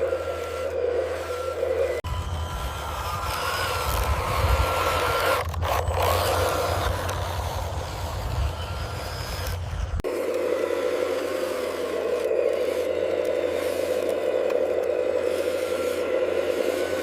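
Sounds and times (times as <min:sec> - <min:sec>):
toy truck motor running: 0:00.0 - 0:17.0.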